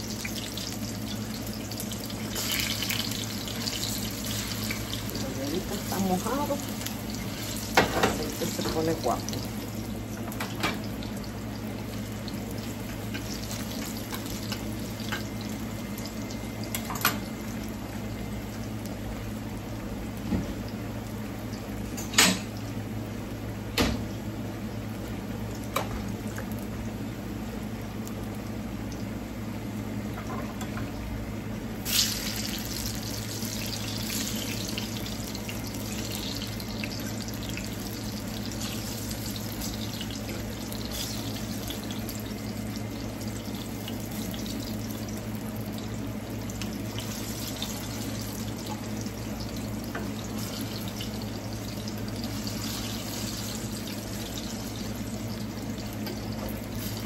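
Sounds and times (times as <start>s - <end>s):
plantain frying in hot oil: 0.0s - 57.0s.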